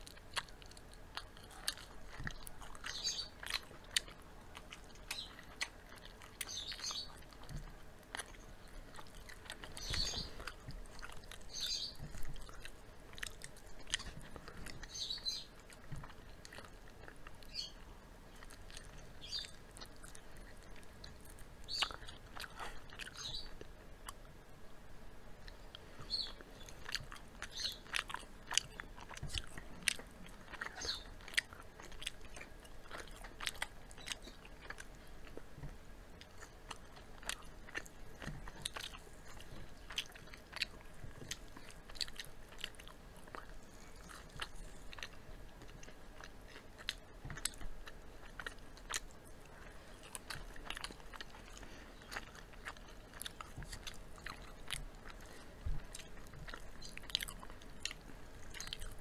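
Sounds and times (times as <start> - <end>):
people chewing crunchy chicken: 0.0 - 24.5, 25.3 - 59.0.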